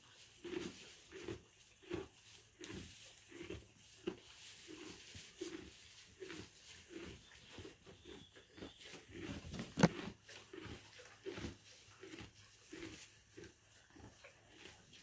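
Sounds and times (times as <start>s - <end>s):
donkey chewing hay: 0.0s - 15.0s.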